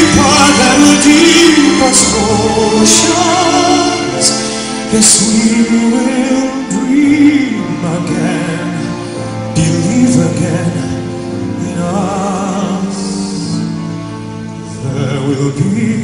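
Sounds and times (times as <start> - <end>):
man singing with vibrato: 0.0 - 16.0
sustained instrumental backing: 0.0 - 16.0.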